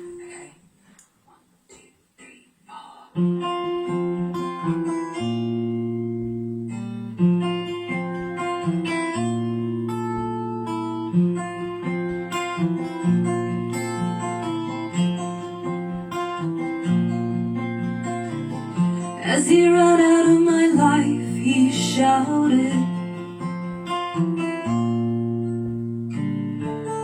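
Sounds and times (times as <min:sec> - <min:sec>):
acoustic guitar strumming: 0:03.2 - 0:27.0.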